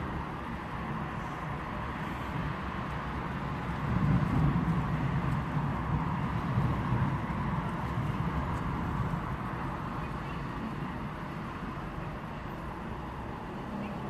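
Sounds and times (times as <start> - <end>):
cars passing on road: 0.0 - 14.0.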